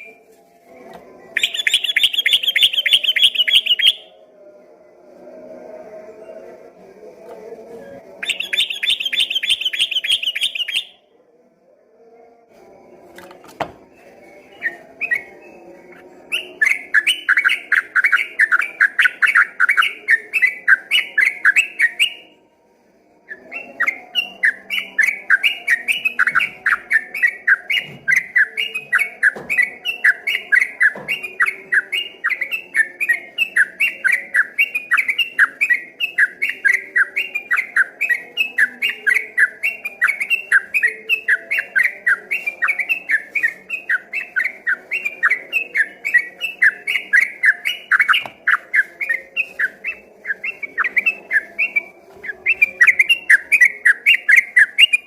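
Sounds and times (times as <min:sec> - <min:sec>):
bulbul singing rapid song: 0:01.3 - 0:04.2, 0:08.0 - 0:11.1, 0:13.5 - 0:22.4, 0:23.3 - 0:55.0.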